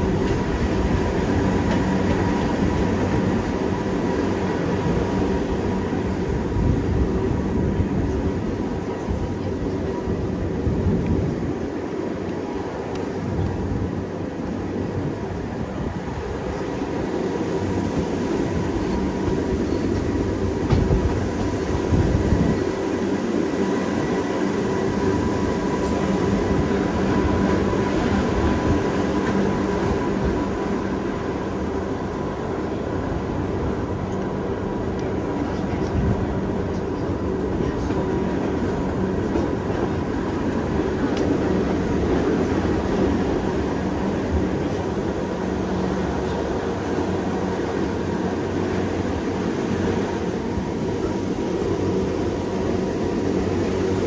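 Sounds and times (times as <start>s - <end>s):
electric train rumbling: 0.0s - 54.0s
train motor hum: 0.0s - 54.0s.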